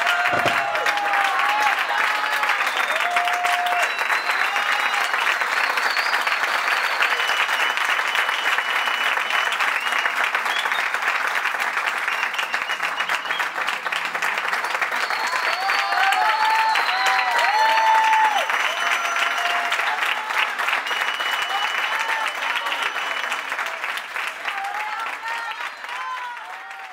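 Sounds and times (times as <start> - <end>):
audience applauding: 0.0 - 26.9.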